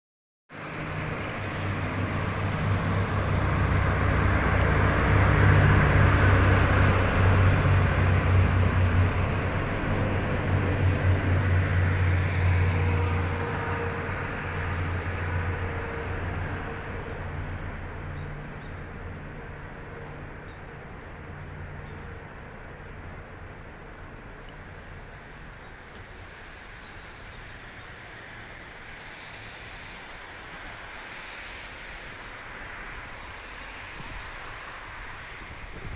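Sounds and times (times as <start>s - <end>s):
train rumbling past: 0.5s - 35.9s.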